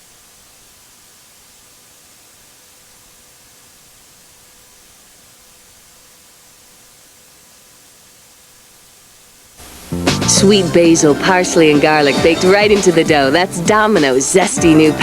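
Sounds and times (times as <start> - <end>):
dead air hiss: 0.0 - 15.0.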